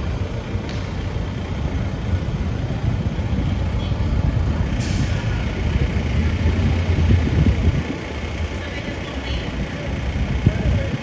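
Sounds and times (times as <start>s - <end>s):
idling engines and traffic rumble: 0.0s - 11.0s.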